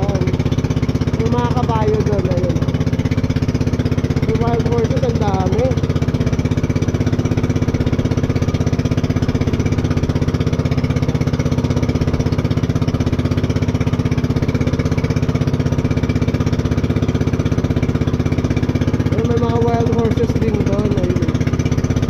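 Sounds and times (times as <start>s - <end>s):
boat engine chugging: 0.0s - 22.0s.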